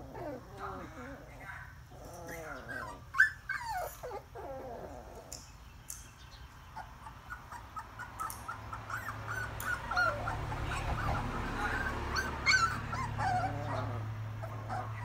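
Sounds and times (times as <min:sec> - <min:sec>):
puppies whimpering: 0:00.0 - 0:05.4, 0:06.7 - 0:15.0.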